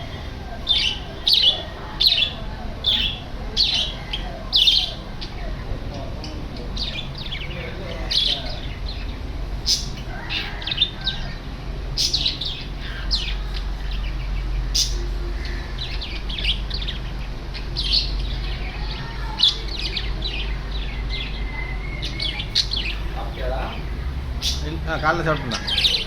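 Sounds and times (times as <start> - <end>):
lovebirds chirping: 0.0 - 26.0
steady low hum: 0.0 - 26.0.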